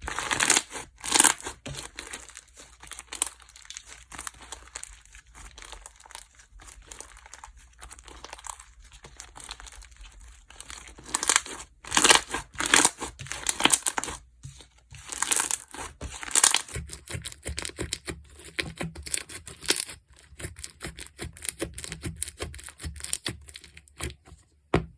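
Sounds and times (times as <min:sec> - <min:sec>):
slime being squished and stretched: 0:00.0 - 0:24.1.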